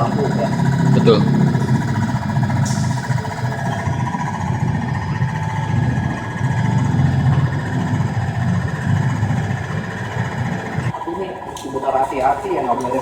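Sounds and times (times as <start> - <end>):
constant machine whine: 0.0 - 13.0
low mechanical rumble: 0.0 - 13.0.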